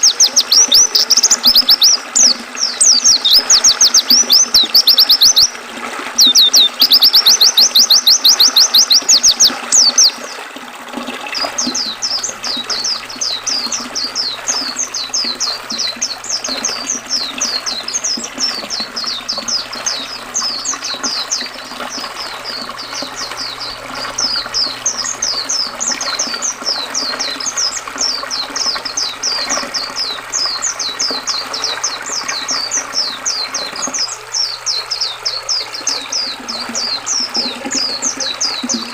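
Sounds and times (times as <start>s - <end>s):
bird trilling and twittering: 0.0s - 5.6s, 6.2s - 10.3s, 11.3s - 38.9s
flowing river water: 0.0s - 38.9s.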